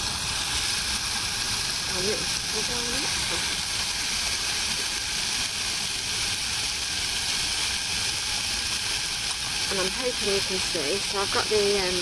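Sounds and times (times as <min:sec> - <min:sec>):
bacon sizzling in a pan: 0:00.0 - 0:12.0.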